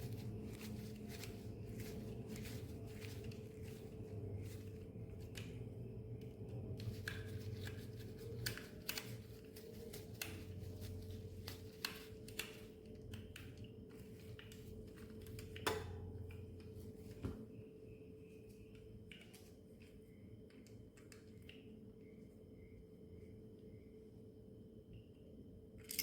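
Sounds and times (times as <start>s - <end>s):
steady low hum: 0.0s - 25.8s.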